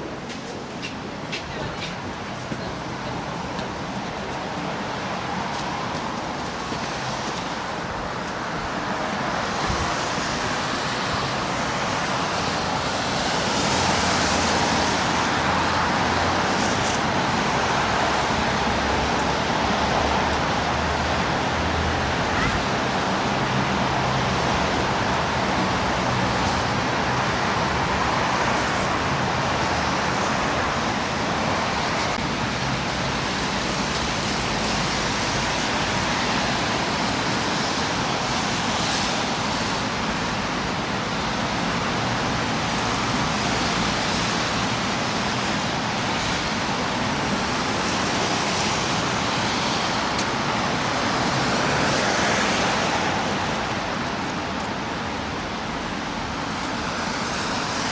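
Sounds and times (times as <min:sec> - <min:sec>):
cars passing: 0:00.0 - 0:57.9.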